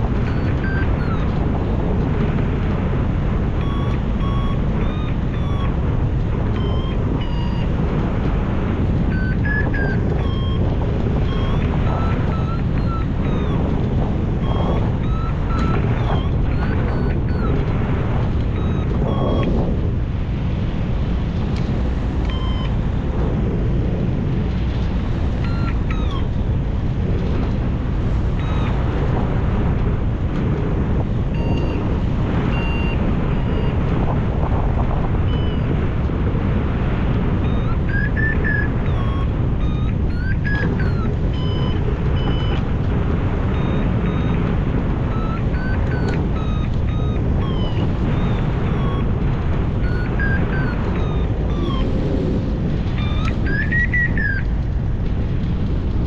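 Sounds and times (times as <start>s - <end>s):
variometer beeping: 0.0s - 23.1s, 24.6s - 56.0s
wind rushing over microphone: 0.0s - 56.0s.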